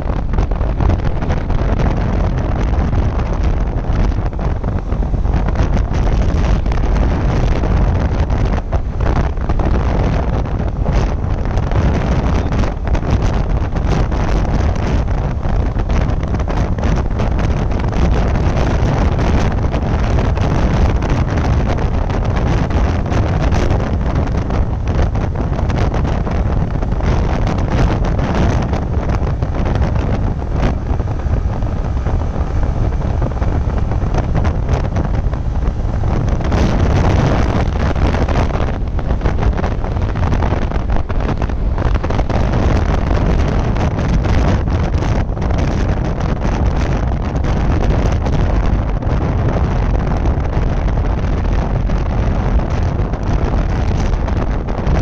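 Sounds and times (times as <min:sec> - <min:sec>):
motorcycle engine running steadily: 0:00.0 - 0:55.0
wind buffeting microphone: 0:00.0 - 0:55.0.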